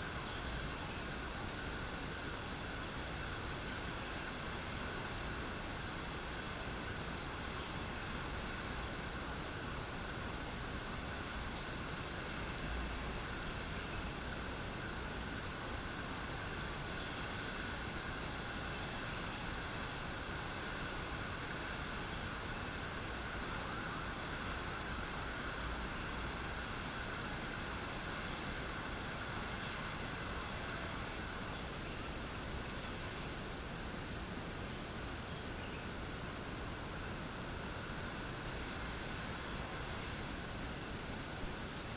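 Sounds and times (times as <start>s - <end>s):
light rain: 0.0s - 41.9s.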